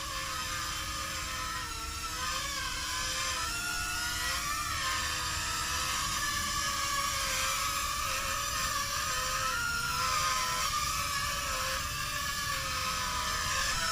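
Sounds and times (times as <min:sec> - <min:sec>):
toy drone propellers whining: 0:00.0 - 0:13.9.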